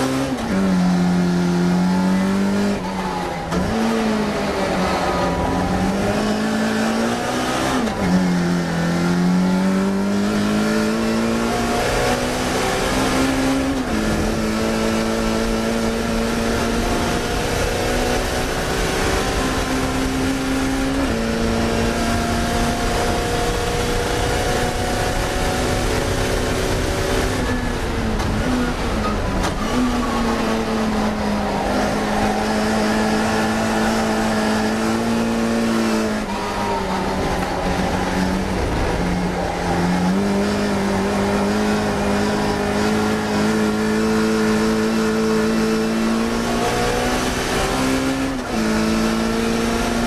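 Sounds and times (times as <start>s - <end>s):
racing car engine at high revs: 0.0s - 50.0s.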